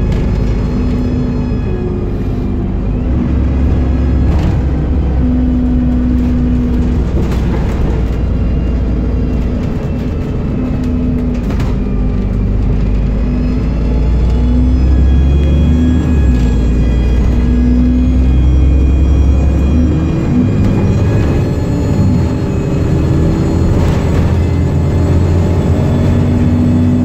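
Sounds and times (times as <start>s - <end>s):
bus engine rumble: 0.0s - 27.0s
engine hum: 0.0s - 27.0s.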